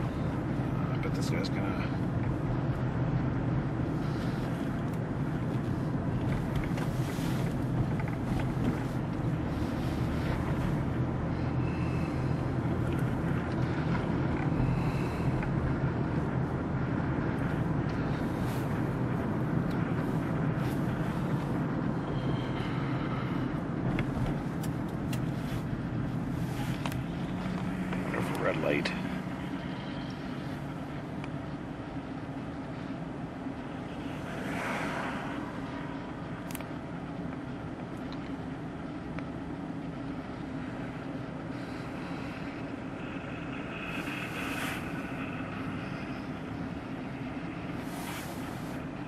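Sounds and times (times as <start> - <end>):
engine and tyres rumbling: 0.0 - 49.0.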